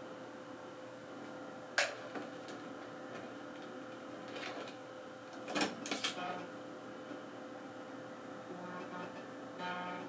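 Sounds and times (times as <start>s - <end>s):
computer hum: 0.0s - 10.0s.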